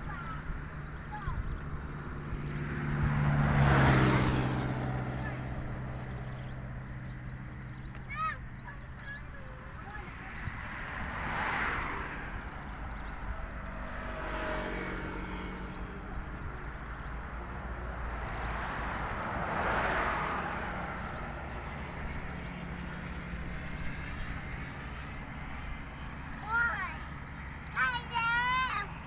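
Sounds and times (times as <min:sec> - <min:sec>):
vehicles passing on road: 0:00.0 - 0:29.0.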